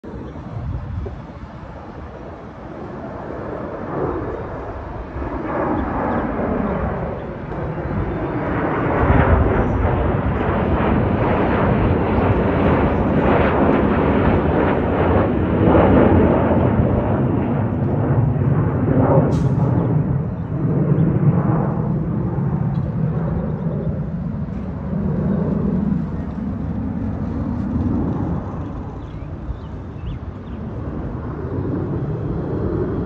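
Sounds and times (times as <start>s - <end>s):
low jet flyover: 0.0s - 33.0s.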